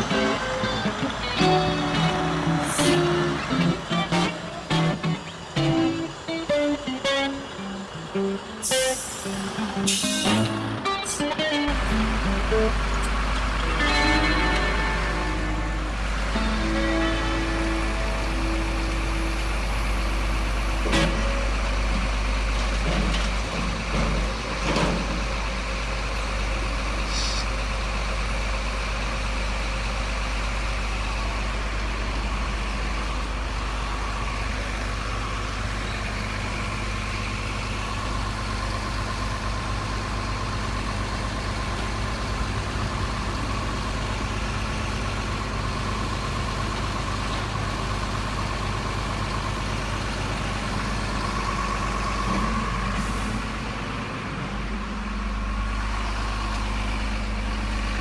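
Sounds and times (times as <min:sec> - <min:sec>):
model truck engine idling: 0:00.0 - 0:58.0.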